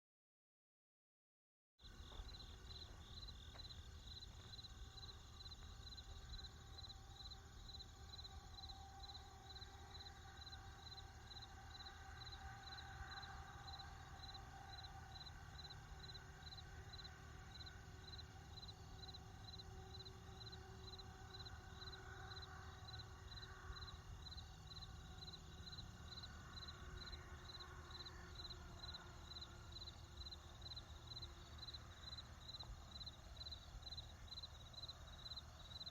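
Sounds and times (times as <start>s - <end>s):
crickets chirping: 1.8s - 35.9s.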